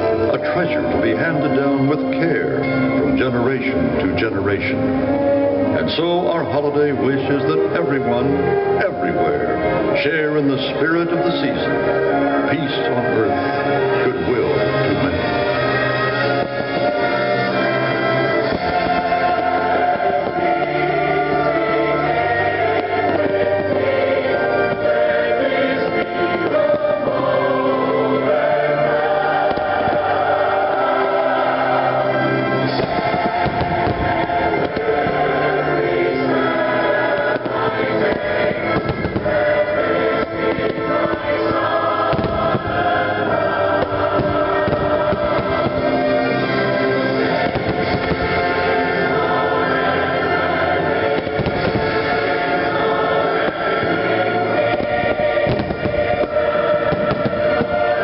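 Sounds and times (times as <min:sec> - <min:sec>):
orchestral music with choir: 0:00.0 - 0:58.0
fireworks bursting: 0:05.8 - 0:58.0.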